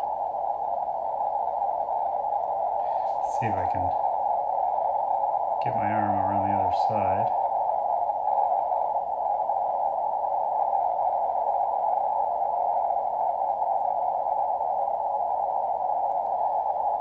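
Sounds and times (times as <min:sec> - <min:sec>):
radio receiver noise hiss: 0:00.0 - 0:17.0.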